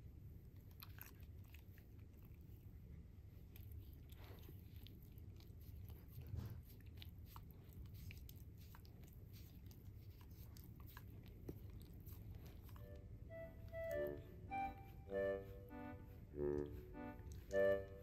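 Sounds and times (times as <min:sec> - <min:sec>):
puppy licking fingers: 0:00.3 - 0:13.1, 0:15.6 - 0:18.0.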